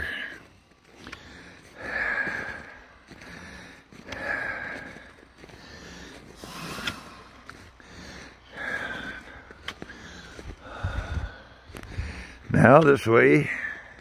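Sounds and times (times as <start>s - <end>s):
man breathing: 0.0s - 12.5s, 13.4s - 14.0s
footsteps in snow: 0.0s - 13.0s.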